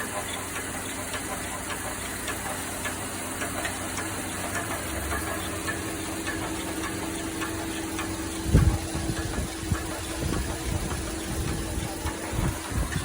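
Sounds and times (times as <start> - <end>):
engine idling: 0.0 - 13.0
light regular ticking: 0.0 - 13.0.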